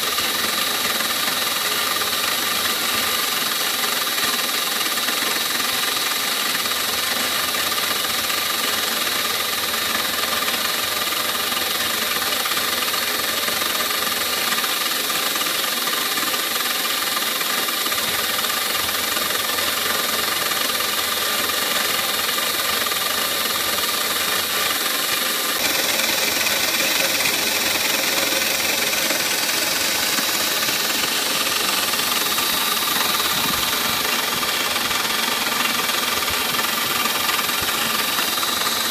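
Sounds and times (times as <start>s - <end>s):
end mill cutting plastic: 0.0s - 38.9s.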